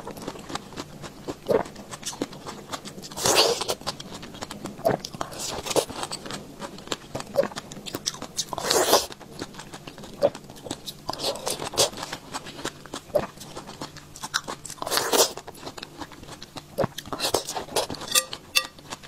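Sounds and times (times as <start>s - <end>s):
person chewing strawberries: 0.0s - 19.0s.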